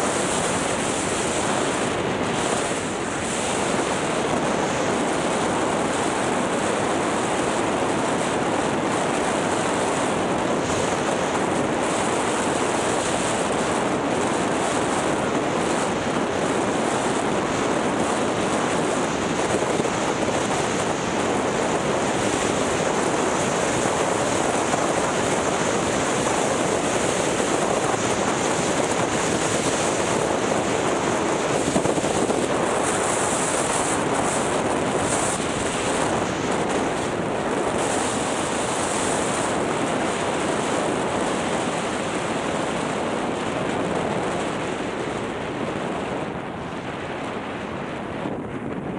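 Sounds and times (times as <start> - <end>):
wind rushing on microphone: 0.0 - 48.9.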